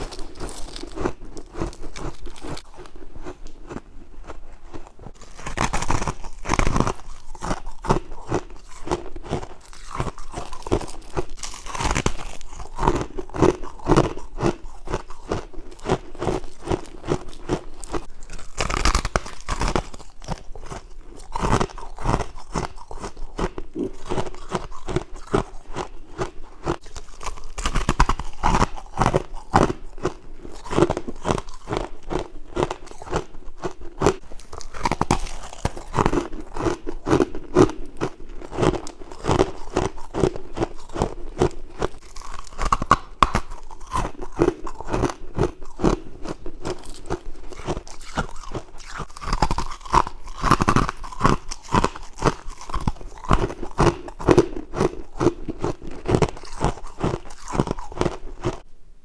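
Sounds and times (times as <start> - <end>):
frost being chewed crunching: 0.0 - 58.6.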